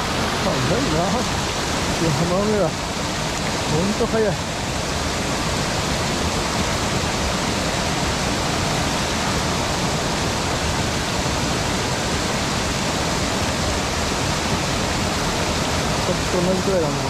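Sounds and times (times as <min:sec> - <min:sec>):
stream pouring over weir: 0:00.0 - 0:17.0.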